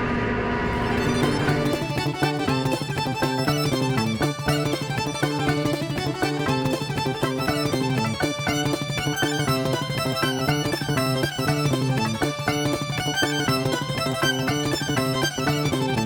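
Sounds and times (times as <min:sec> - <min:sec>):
upbeat plucked-string music: 0:00.7 - 0:16.0
steady bass line: 0:00.9 - 0:16.0.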